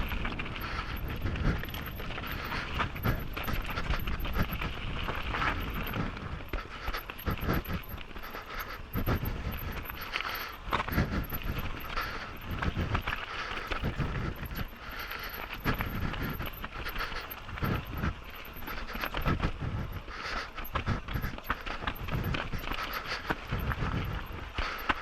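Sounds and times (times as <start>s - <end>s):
heavy breathing: 0.0s - 25.0s
mountain bike rattling over rocks: 0.0s - 25.0s.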